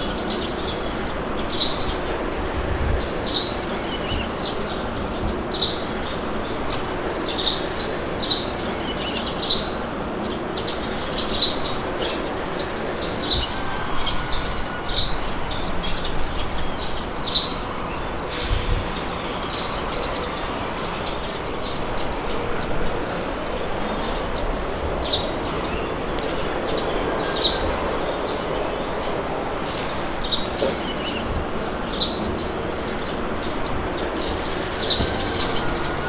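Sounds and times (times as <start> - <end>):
birds chirping: 0.0 - 36.0
wind blowing: 0.0 - 36.0.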